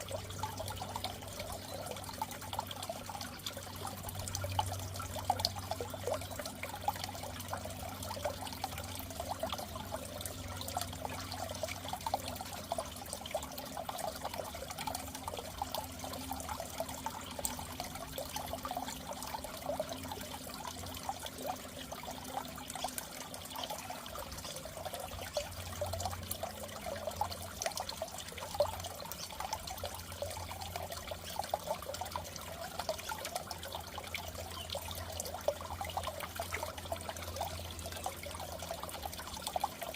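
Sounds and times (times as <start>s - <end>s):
low steady hum: 0.0s - 39.9s
water trickling and bubbling: 0.0s - 39.9s.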